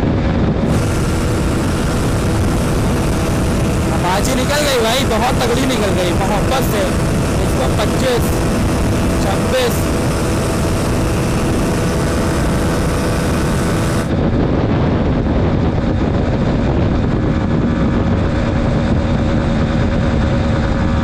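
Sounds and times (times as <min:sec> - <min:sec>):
motorcycle engine at high speed: 0:00.0 - 0:21.0
wind rush: 0:00.0 - 0:21.0.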